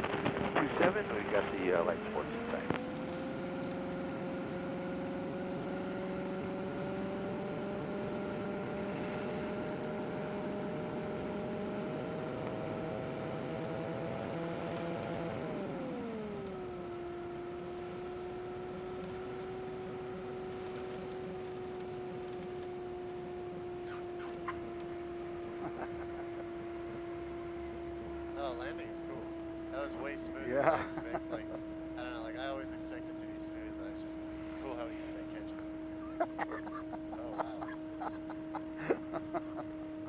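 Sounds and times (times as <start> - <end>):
aircraft engine and propeller droning: 0.0 - 40.0.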